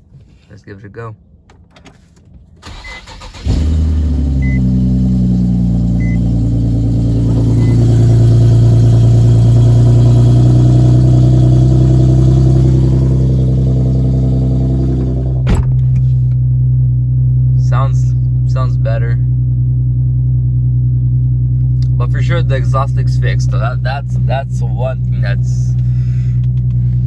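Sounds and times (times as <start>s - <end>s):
car engine idling: 2.6s - 27.0s.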